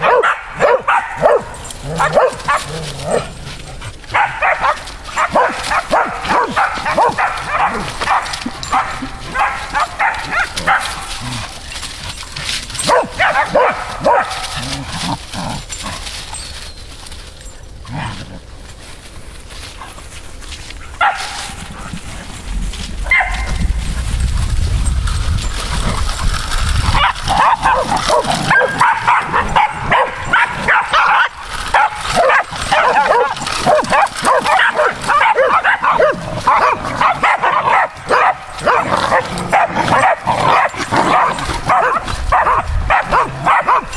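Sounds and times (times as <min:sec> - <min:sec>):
dogs barking and yapping: 0:00.0 - 0:43.9.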